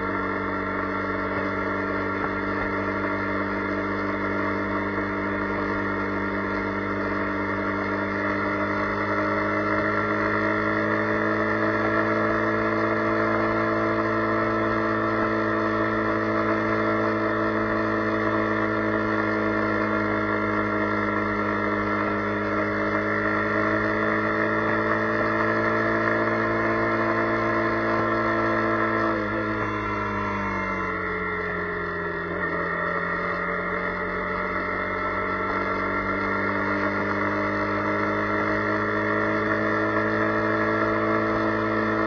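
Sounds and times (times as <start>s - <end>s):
motorcycle engine droning: 0.0s - 42.0s.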